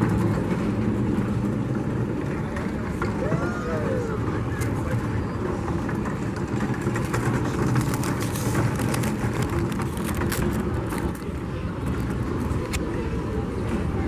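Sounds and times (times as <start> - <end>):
engine running with low rumble: 0.0 - 14.0.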